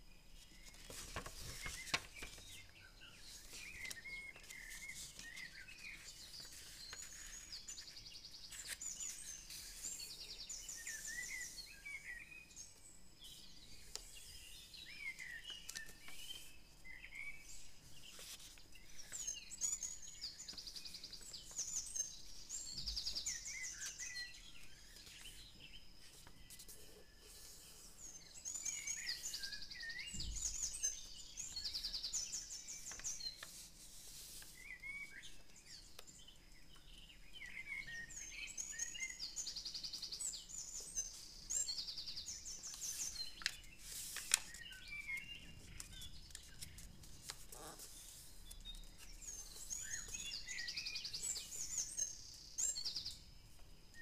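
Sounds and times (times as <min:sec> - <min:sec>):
songbirds chirping and singing: 0:00.1 - 0:54.0.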